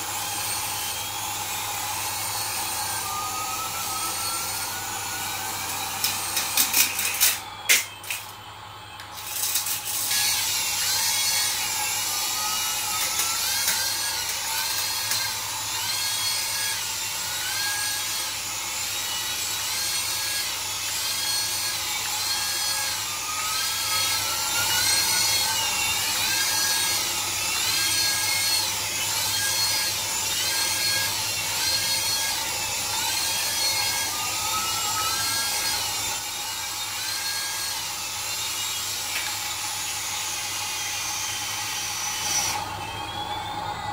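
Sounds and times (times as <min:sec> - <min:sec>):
toy helicopter rotors whining: 0:00.0 - 0:43.9.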